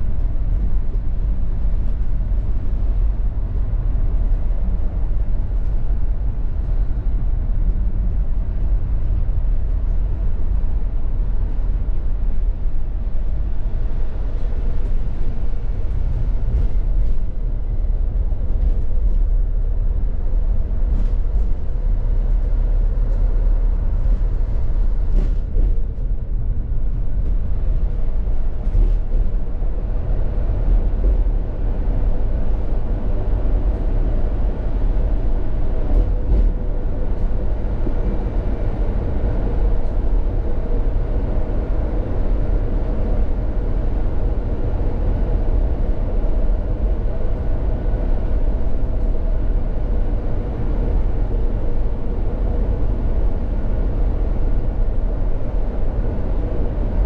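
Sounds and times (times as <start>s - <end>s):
faint constant hum: 0.0s - 57.0s
vehicle rumble: 0.0s - 57.0s.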